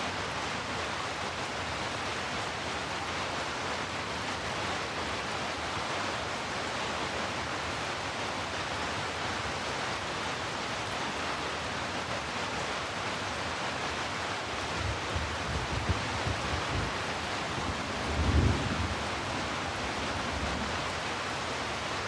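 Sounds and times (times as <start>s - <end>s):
heavy rainfall hiss: 0.0s - 22.0s.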